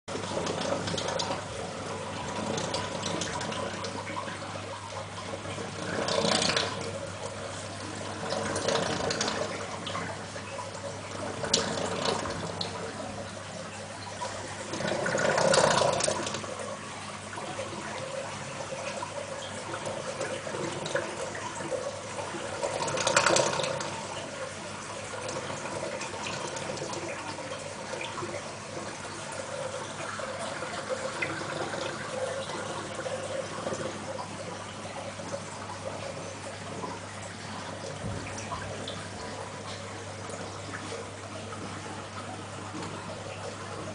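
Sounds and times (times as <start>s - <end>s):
water trickling and splashing: 0.1s - 43.9s.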